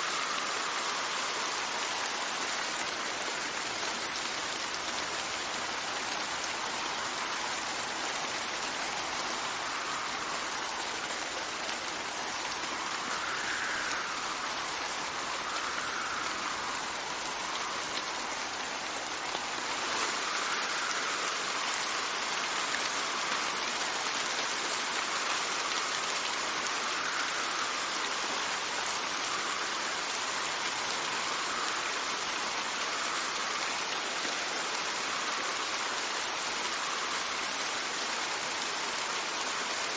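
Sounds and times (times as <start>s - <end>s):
steady rain falling: 0.0s - 39.9s
wind gusts: 0.0s - 39.9s.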